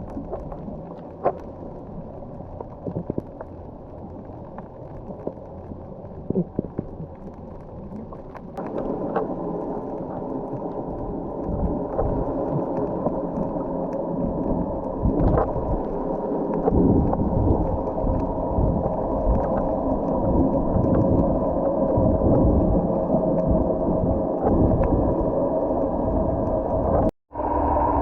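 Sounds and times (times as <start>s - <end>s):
small clicks and bubbling: 0.0s - 27.1s
underwater rumble and wash: 0.0s - 28.0s.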